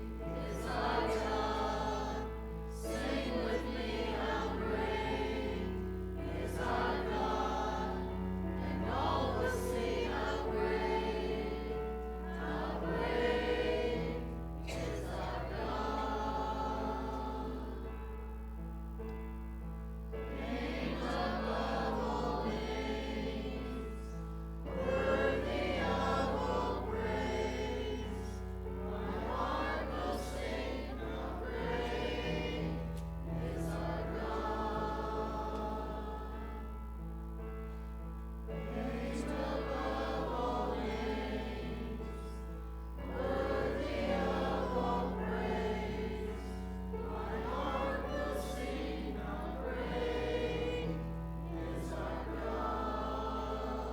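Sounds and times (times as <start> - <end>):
group singing a hymn: 0.0 - 18.4, 20.1 - 53.9.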